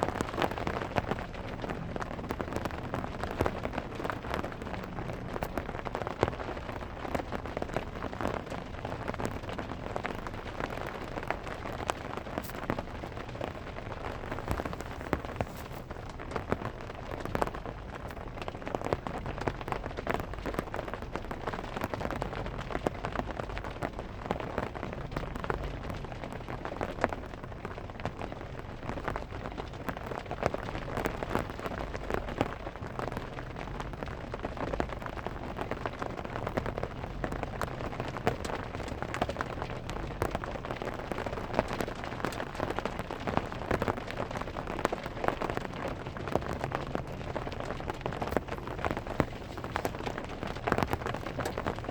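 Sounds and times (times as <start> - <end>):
rain drumming on metal car roof: 0.0 - 51.9.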